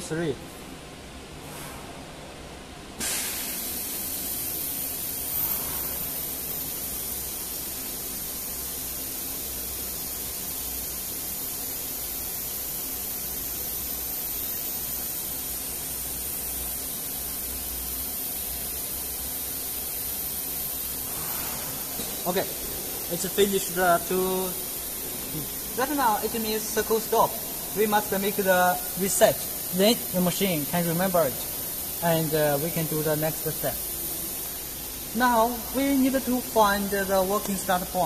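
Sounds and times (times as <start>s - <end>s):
compressed air hiss: 3.0s - 38.0s.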